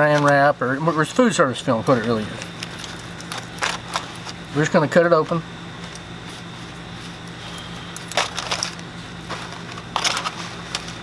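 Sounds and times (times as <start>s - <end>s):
foil and plastic film crinkling: 0.0s - 4.8s, 5.8s - 11.0s
steady low hum: 0.0s - 11.0s.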